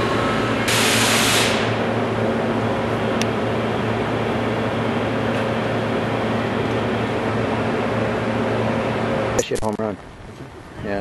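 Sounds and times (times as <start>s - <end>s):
cnc machine humming and hissing: 0.0s - 9.5s.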